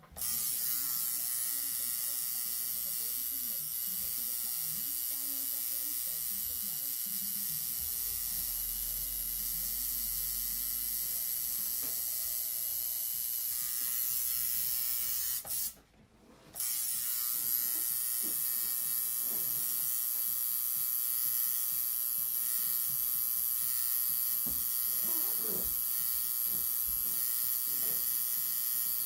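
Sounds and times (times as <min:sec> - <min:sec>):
tattoo machine buzzing: 0:00.2 - 0:15.8, 0:16.5 - 0:29.0.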